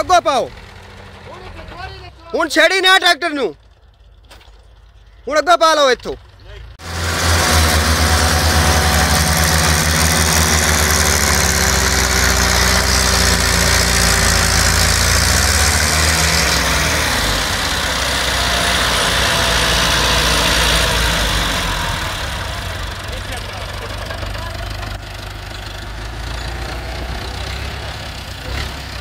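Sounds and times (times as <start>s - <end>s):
diesel tractor engines running: 0.0s - 29.0s.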